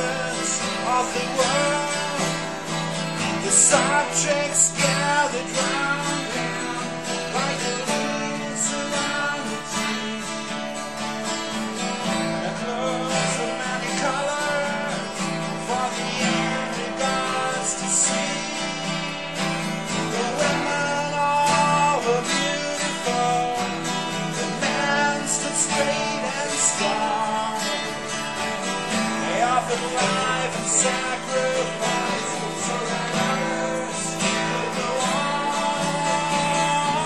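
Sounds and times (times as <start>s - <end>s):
song with guitar: 0.0s - 37.0s.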